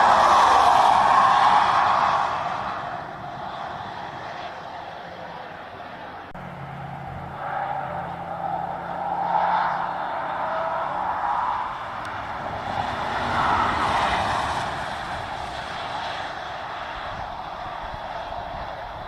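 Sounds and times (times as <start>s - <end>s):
tyre and road noise of passing car: 0.0s - 19.0s.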